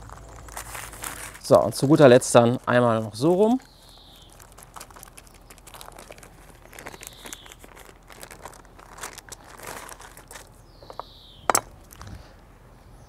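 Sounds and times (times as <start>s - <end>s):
baking paper crinkling: 0.0s - 11.1s.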